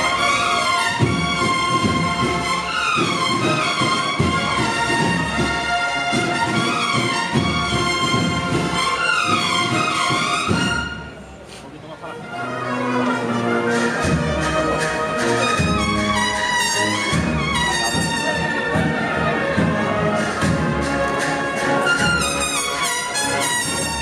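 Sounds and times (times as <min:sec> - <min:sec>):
trumpets playing melody: 0:00.0 - 0:11.1, 0:12.2 - 0:24.0
brass band playing a march: 0:00.0 - 0:11.2, 0:12.0 - 0:24.0.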